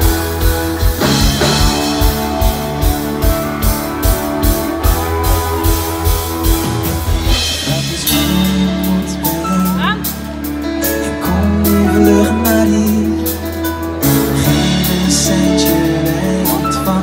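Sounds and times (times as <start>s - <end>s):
drum kit steady beat: 0.0s - 17.0s
electric guitar: 0.0s - 17.0s.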